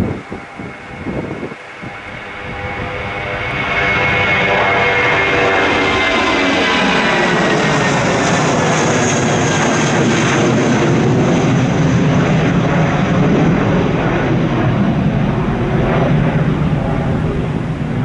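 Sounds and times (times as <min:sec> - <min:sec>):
jet engine whine: 0:00.0 - 0:18.0
jet engines roaring: 0:00.0 - 0:18.0.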